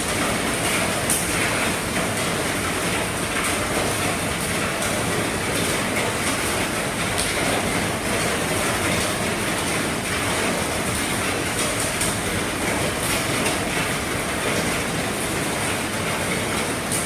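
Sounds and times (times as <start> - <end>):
heavy rain drumming on roof: 0.0 - 17.0.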